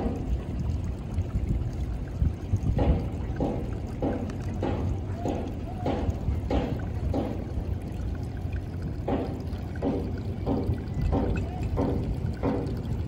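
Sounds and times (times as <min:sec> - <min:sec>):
low steady rumble: 0:00.0 - 0:13.0
water trickling over rocks: 0:00.0 - 0:13.0.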